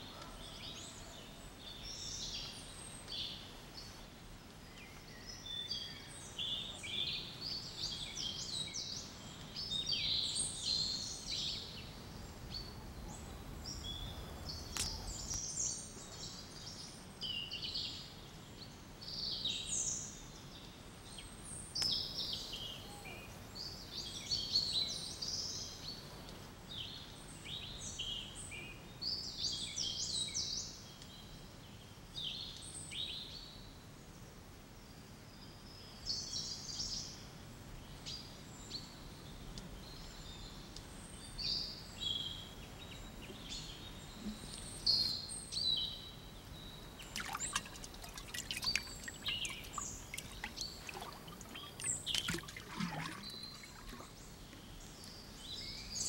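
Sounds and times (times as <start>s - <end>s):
small birds chirping: 0.0s - 33.6s, 35.4s - 56.0s.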